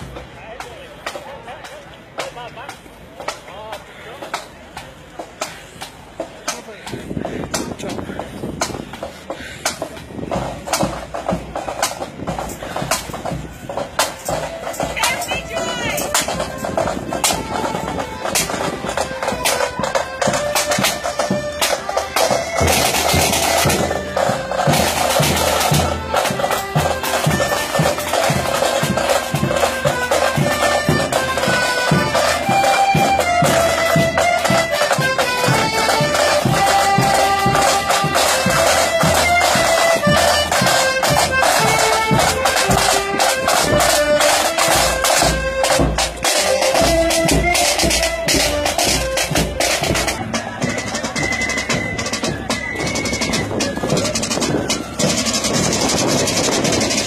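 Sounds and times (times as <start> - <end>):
drums beating: 0.0 - 57.0
bagpipes playing marching tune: 2.2 - 57.0.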